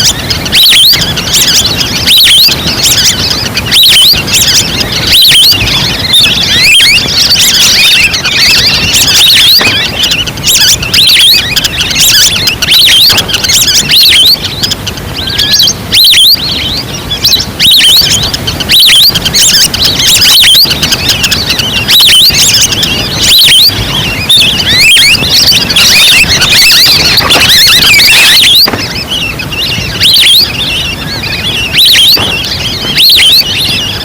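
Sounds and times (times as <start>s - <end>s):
ducks whistling calls: 0.0s - 34.0s
low background noise: 0.0s - 34.0s.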